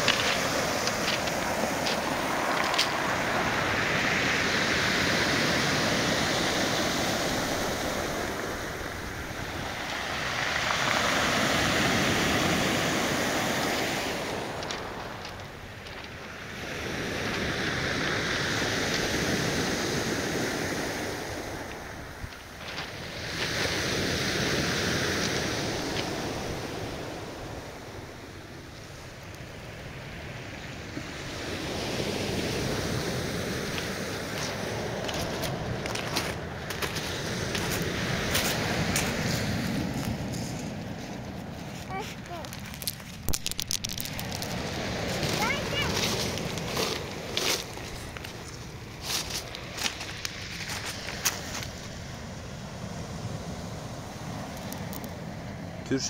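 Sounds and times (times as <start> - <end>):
surf washing up pebble beach: 0.0 - 56.0.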